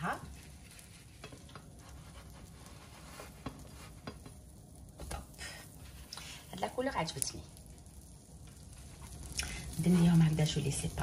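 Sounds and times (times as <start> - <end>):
pancake batter frying: 0.0 - 11.0.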